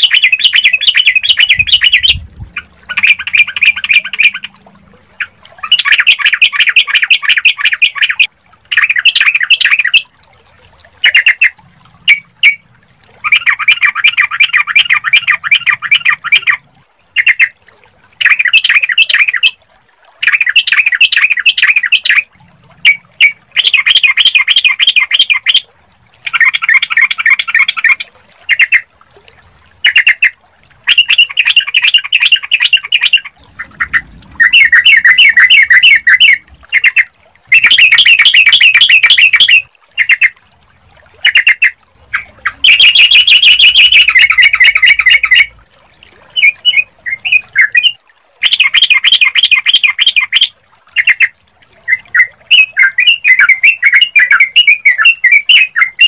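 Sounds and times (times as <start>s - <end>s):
bulbul chattering song: 0.0s - 4.6s, 5.2s - 10.1s, 11.0s - 17.6s, 18.2s - 19.6s, 20.2s - 28.9s, 29.8s - 40.4s, 41.2s - 45.6s, 46.3s - 56.0s.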